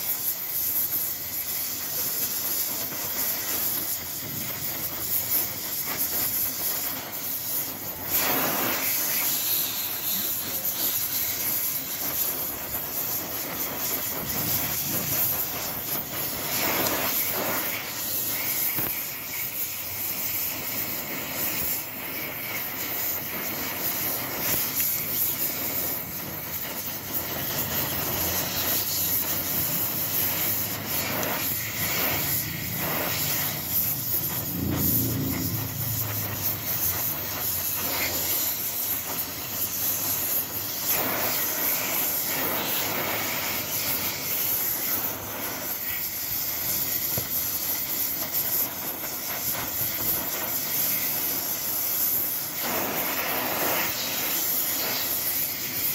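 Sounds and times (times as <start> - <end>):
welding arc hissing: 0.0 - 55.9.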